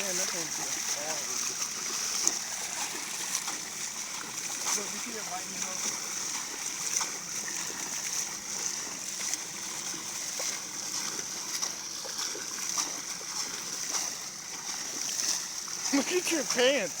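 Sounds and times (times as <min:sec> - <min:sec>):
flowing rainwater rushing: 0:00.0 - 0:17.0
small water splashes: 0:00.0 - 0:17.0.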